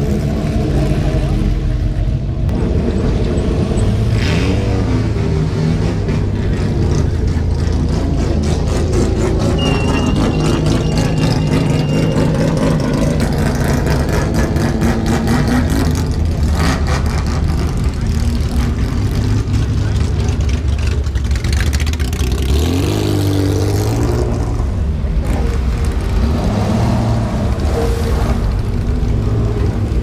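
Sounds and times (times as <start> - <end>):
racing car engines revving: 0.0 - 30.0.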